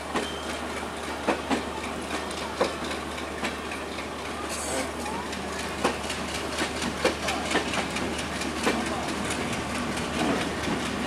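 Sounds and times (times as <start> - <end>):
wheels clacking over rail joints: 0.0 - 11.0
wheels rumbling on rail: 0.0 - 11.0.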